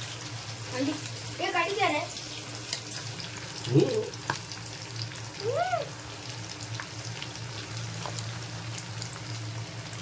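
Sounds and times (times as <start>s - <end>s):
chicken deep-frying in oil: 0.0s - 10.0s.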